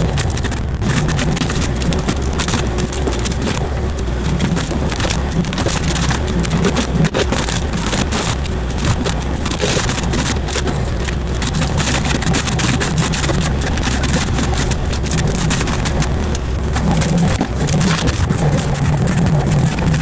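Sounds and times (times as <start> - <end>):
diesel engine under load: 0.0 - 20.0
mulcher shredding brush: 0.0 - 20.0
wood crackling and snapping: 0.0 - 20.0.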